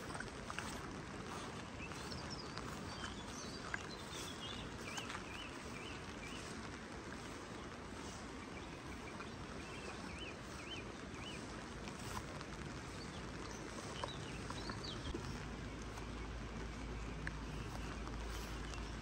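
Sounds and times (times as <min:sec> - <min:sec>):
small bird chirping: 0:00.0 - 0:19.0
steady rain hiss: 0:00.0 - 0:19.0.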